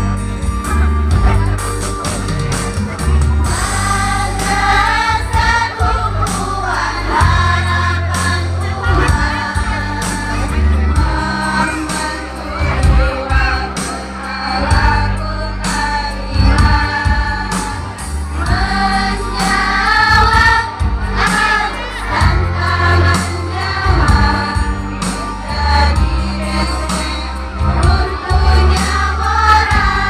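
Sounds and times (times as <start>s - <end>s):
instrumental accompaniment with bass: 0.0s - 30.0s
children's choir singing: 2.9s - 30.0s.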